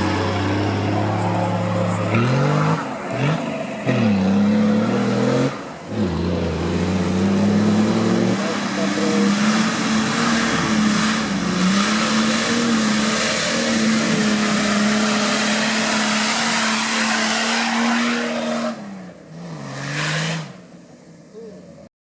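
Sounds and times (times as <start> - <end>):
vehicle engine revving: 0.0 - 20.8.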